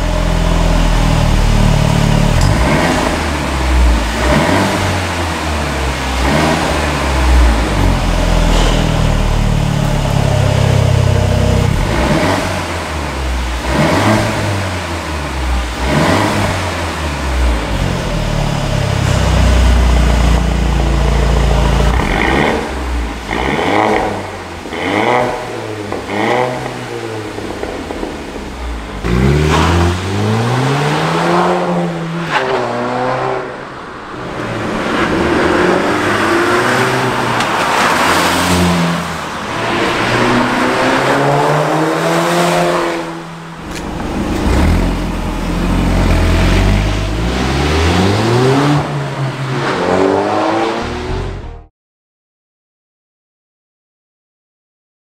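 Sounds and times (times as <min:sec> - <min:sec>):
car engine revving: 0:00.0 - 0:51.7.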